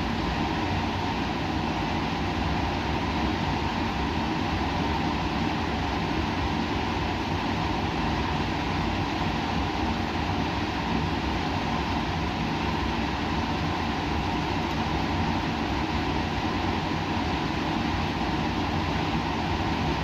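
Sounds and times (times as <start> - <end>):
low machine hum: 0.0 - 20.0
rumble and hiss: 0.0 - 20.0.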